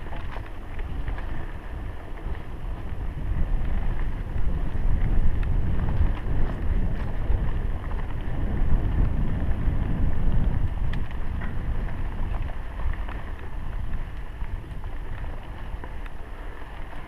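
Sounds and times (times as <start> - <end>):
bike rolling on dirt: 0.0 - 17.0
small clicks and rattles: 0.0 - 17.0
wind buffeting microphone: 0.0 - 17.0.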